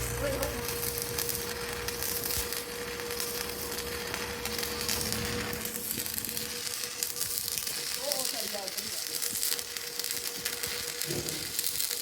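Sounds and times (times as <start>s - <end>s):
arc welding crackling sizzle: 0.0s - 12.0s.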